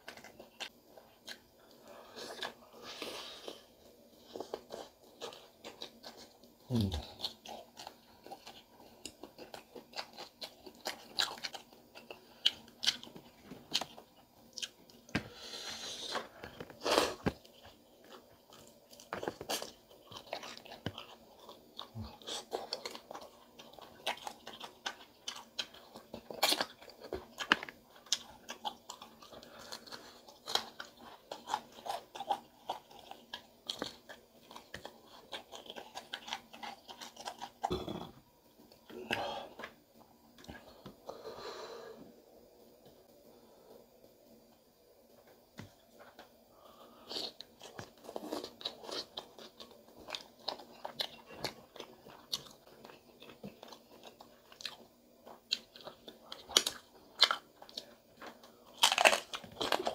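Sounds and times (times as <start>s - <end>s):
crunching and chewing: 0.0s - 41.1s, 45.6s - 59.9s.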